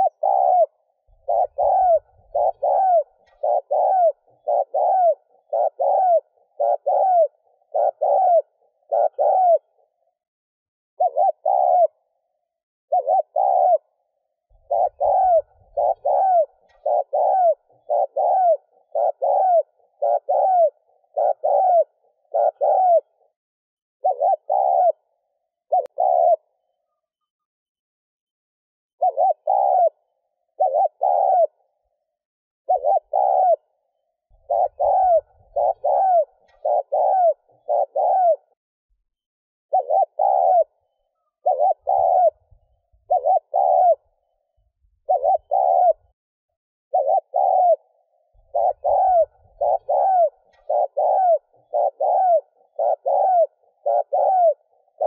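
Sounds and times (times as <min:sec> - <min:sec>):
dove cooing: 0:00.0 - 0:10.2, 0:11.0 - 0:23.4, 0:24.0 - 0:27.4, 0:29.0 - 0:46.2, 0:46.9 - 0:55.0.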